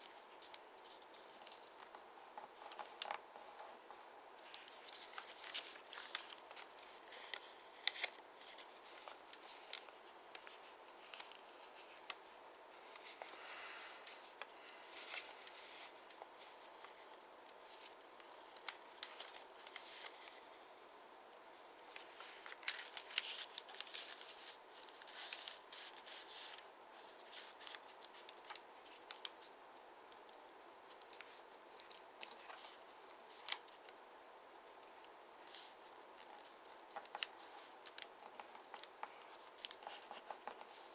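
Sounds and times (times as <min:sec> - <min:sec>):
paper being folded: 0:00.0 - 0:20.6, 0:21.8 - 0:29.5, 0:30.2 - 0:34.0, 0:35.3 - 0:40.9.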